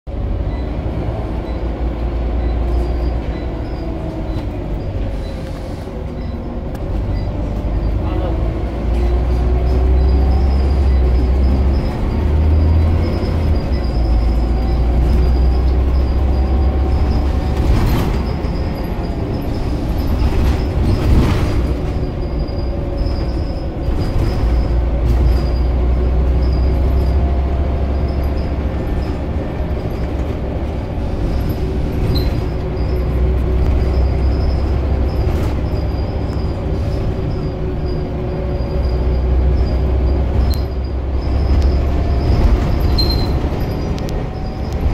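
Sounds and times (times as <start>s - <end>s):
bus engine rumbling: 0.0s - 44.9s.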